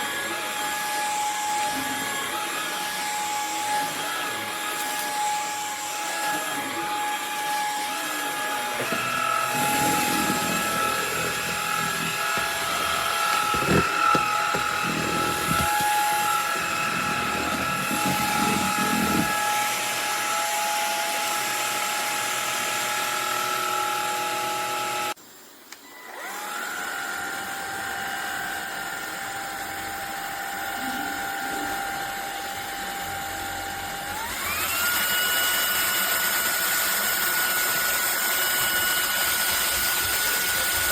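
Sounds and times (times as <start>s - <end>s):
vacuum motor whining: 0.0s - 25.2s, 25.8s - 40.9s.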